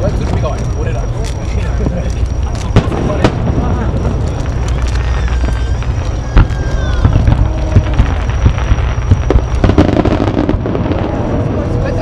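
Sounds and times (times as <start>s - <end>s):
fireworks shells bursting: 0.0s - 11.2s
fireworks low rumble: 0.0s - 12.0s.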